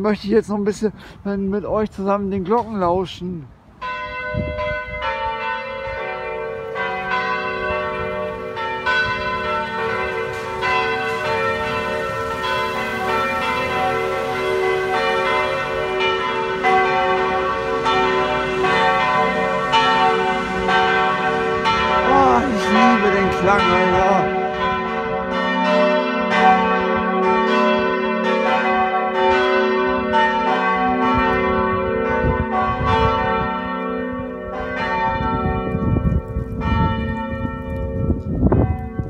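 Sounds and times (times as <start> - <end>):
church bells ringing: 1.5 - 39.0.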